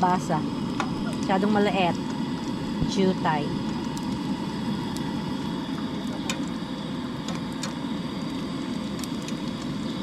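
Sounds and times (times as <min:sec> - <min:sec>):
fish frying hiss: 0:00.0 - 0:10.0.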